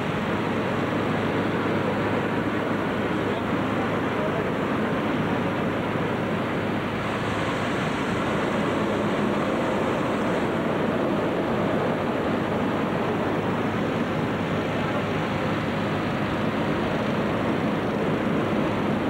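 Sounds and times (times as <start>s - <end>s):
hot air balloon burners firing: 0.0s - 19.0s
inflation fans running: 0.0s - 19.0s.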